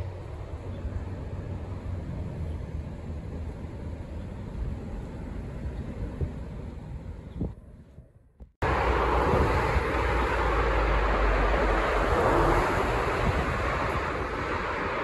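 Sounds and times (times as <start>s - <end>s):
deep rumble: 0.0s - 15.0s
traffic roar in tunnel: 0.0s - 15.0s.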